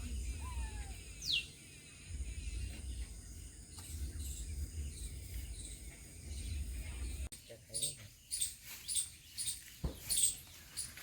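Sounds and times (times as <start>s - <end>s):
high insect hum: 0.0s - 11.0s.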